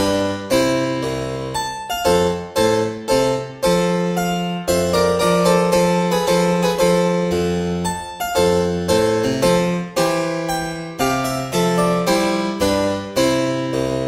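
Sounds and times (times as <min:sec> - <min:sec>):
harpsichord-like keyboard music: 0:00.0 - 0:14.0.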